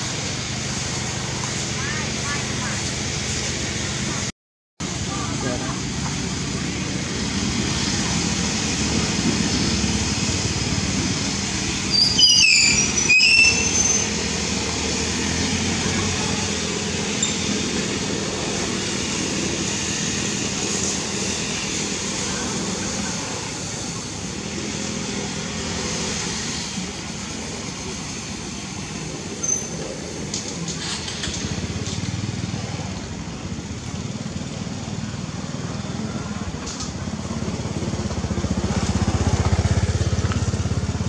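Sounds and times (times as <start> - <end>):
steady rushing noise: 0.0 - 12.0, 14.0 - 41.0.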